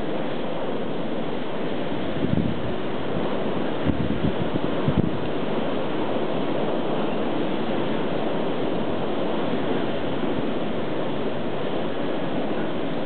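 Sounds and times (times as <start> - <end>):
blizzard wind blowing: 0.0 - 13.0.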